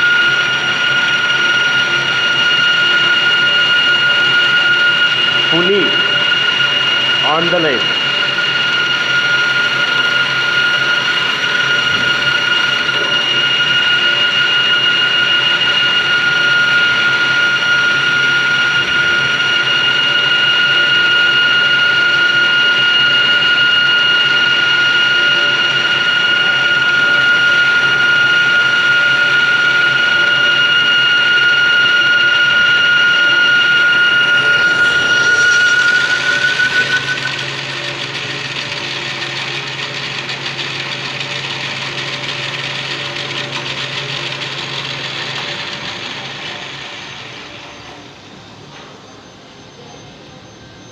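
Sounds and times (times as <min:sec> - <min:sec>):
lathe high-pitched whine: 0:00.0 - 0:50.9
steady machine noise: 0:00.0 - 0:50.9.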